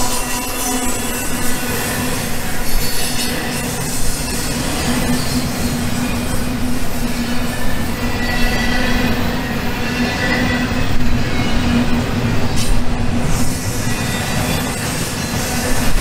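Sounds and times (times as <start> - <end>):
model train wheels on rails: 0.0 - 16.0.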